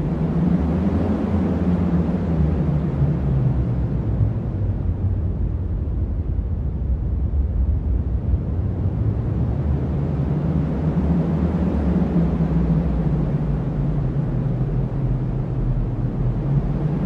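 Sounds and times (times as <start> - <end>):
strong wind rumbling: 0.0 - 17.0.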